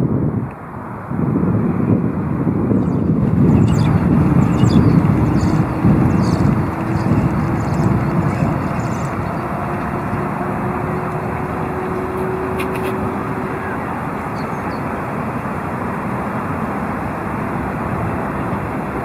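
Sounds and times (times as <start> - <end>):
distant road traffic rumble: 0.0 - 19.0
faint hum: 2.8 - 19.0.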